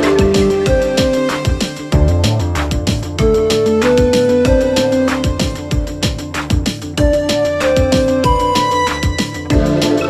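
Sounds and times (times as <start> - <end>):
electronic background music: 0.0 - 10.0.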